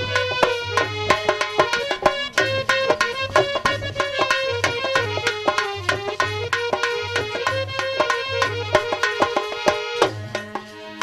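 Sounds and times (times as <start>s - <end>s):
hand drums fast rhythm: 0.0s - 11.0s
keyed instrument melody: 0.0s - 11.0s.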